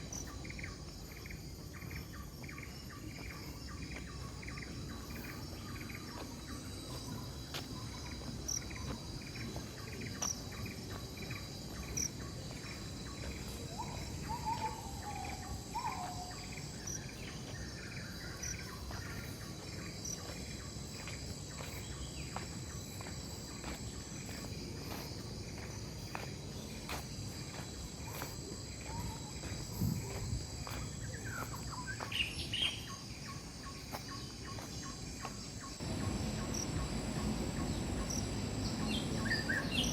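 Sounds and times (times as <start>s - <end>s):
bird calls: 0.0s - 39.9s
insects droning: 0.0s - 39.9s.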